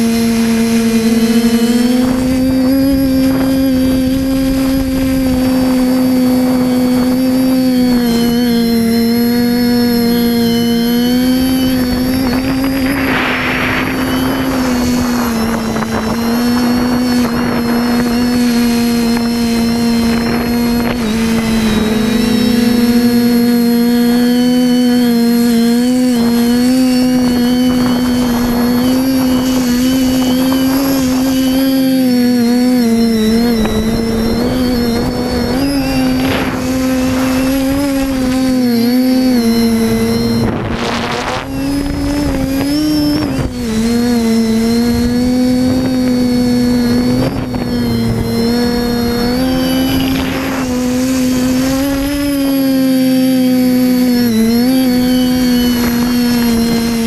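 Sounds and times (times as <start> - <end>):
drone motors buzzing whine: 0.0 - 57.0
wind noise on microphone: 0.0 - 57.0.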